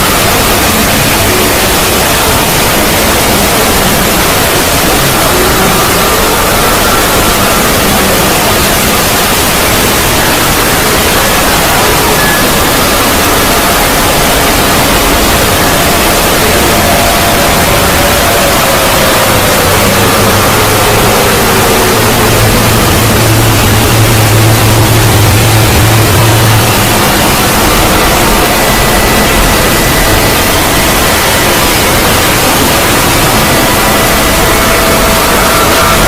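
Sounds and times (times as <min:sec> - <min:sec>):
faint drifting tones: 0:00.0 - 0:36.0
loud steady ambient hiss: 0:00.0 - 0:36.0
low hum: 0:00.0 - 0:36.0
slow falling tone: 0:00.0 - 0:36.0.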